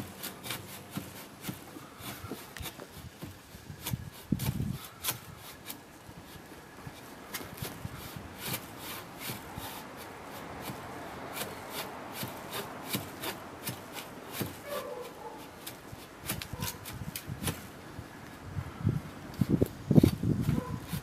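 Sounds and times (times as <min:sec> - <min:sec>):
hand saw cutting wood: 0:00.0 - 0:17.8, 0:19.4 - 0:21.0.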